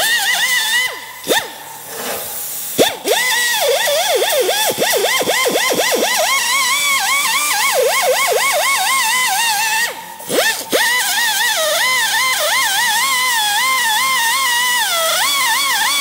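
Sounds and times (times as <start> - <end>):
air die grinder whine: 0.0 - 16.0.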